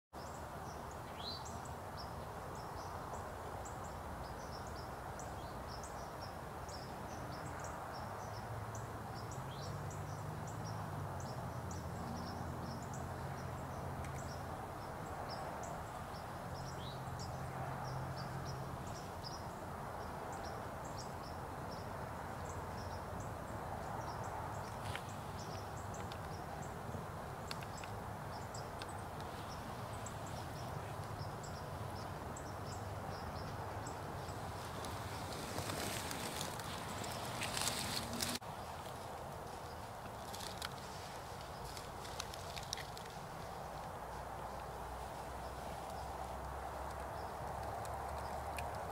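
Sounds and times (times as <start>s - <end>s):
small birds chipping: 0.2s - 48.9s.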